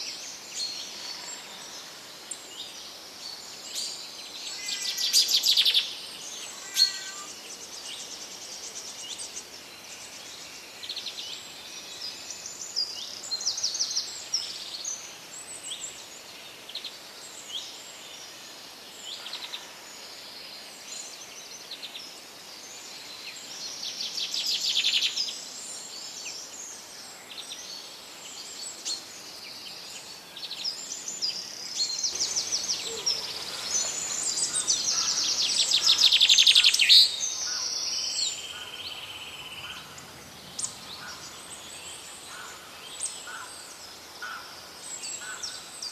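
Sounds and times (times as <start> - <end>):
small birds chirping and trilling: 0.0 - 17.8, 19.0 - 45.9
faint steady hiss: 0.0 - 45.9.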